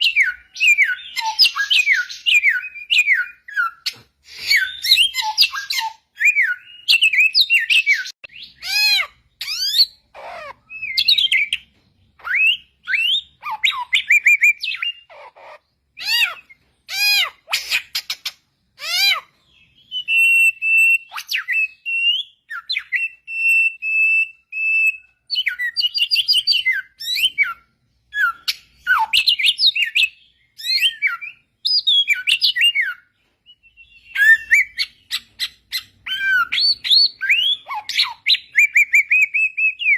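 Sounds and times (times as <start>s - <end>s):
songbird whistling: 0.0s - 39.9s.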